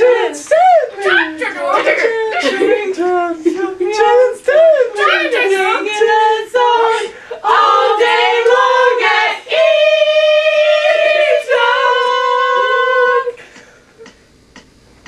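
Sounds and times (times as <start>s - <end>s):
voices singing a chant: 0.0s - 13.4s.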